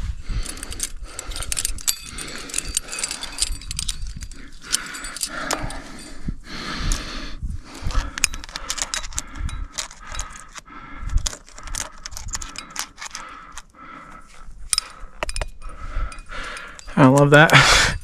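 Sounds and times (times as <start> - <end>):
climbing gear clinking: 0.0 - 18.0.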